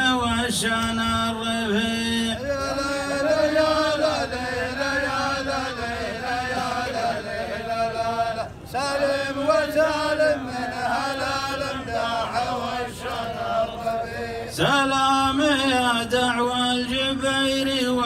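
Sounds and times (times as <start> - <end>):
men chanting in unison: 0.0 - 18.0.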